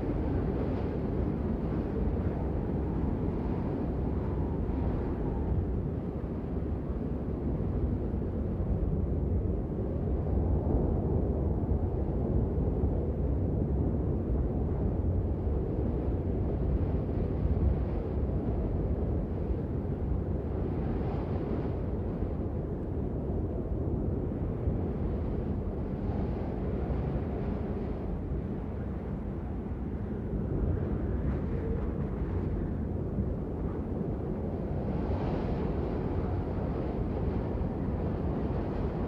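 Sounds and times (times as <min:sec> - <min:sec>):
low rumbling snowfall ambience: 0:00.0 - 0:39.0.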